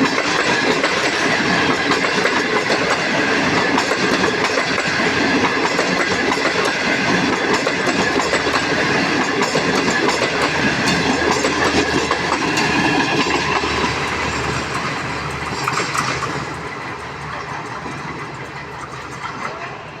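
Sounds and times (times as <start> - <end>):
train running on rails: 0.0 - 20.0
wheels clattering over rail joints: 0.0 - 20.0.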